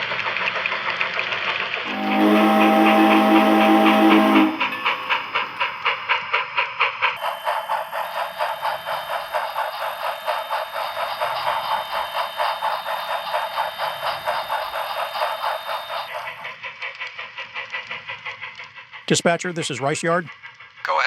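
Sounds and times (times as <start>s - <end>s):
model train running: 0.0s - 21.0s.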